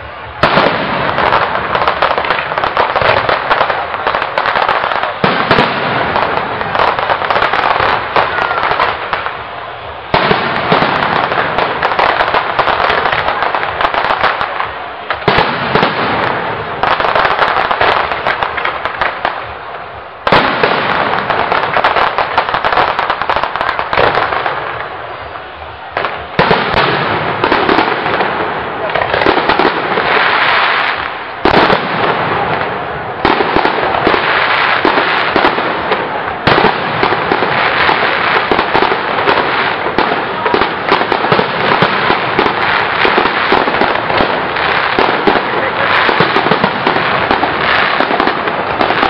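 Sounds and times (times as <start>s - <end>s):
fireworks bursting and crackling: 0.0s - 49.0s.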